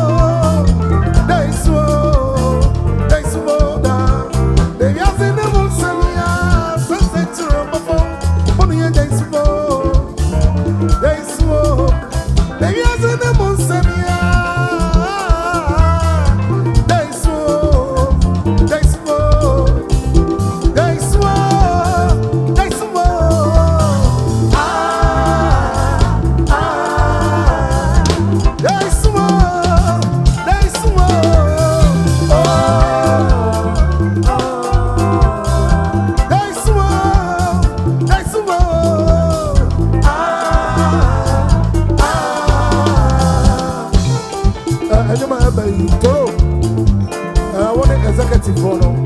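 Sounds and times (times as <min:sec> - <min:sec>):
person singing: 0:00.0 - 0:46.4
highlife band music: 0:00.0 - 0:49.0
pulsing bass line: 0:00.0 - 0:49.0
steady drums: 0:00.0 - 0:49.0.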